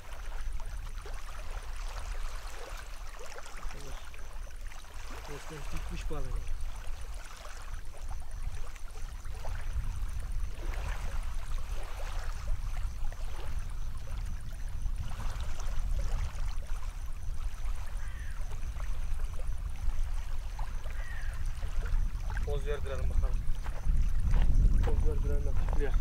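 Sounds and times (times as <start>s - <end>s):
lake water at the shore: 0.0s - 26.0s
wind: 0.0s - 26.0s.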